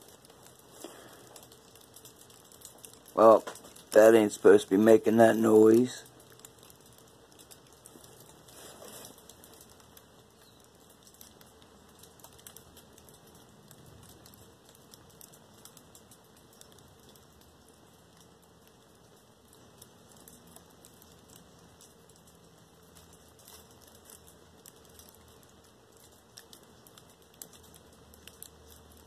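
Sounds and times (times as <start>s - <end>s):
foil blanket crinkling: 0.0s - 29.0s
low hiss: 0.0s - 29.0s.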